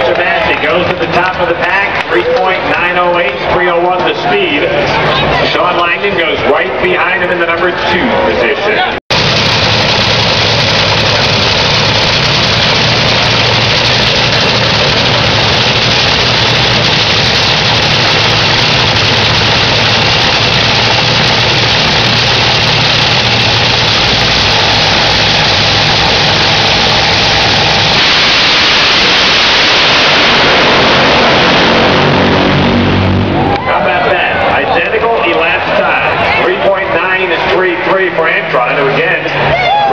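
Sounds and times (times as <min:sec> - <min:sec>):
dragster engines roaring: 0:00.0 - 0:39.9.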